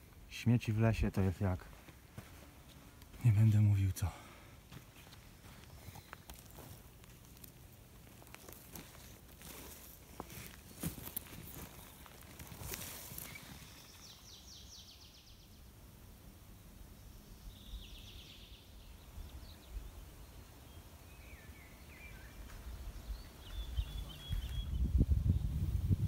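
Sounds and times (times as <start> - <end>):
small birds chirping: 0.0 - 15.8, 16.8 - 26.0.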